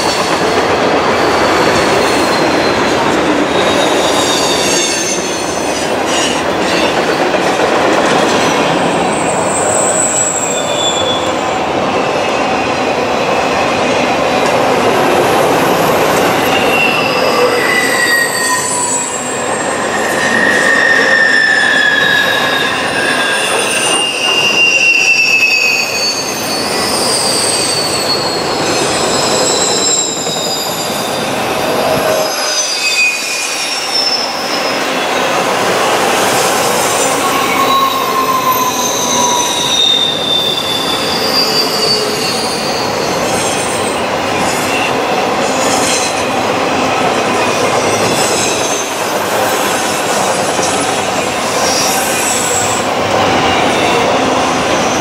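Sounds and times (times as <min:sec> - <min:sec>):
train wheel squeal: 0:00.0 - 0:12.8, 0:15.2 - 0:55.0
train wheels rumbling on rail: 0:00.0 - 0:55.0.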